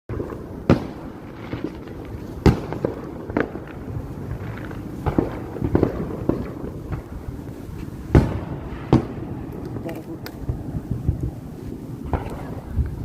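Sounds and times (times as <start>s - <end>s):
fireworks bangs: 0.1s - 13.0s
low rumble: 0.1s - 13.0s.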